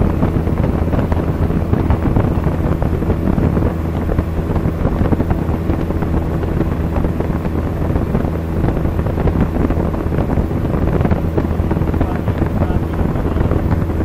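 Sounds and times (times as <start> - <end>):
airplane engine droning: 0.0 - 14.0
wind noise over airframe: 0.0 - 14.0.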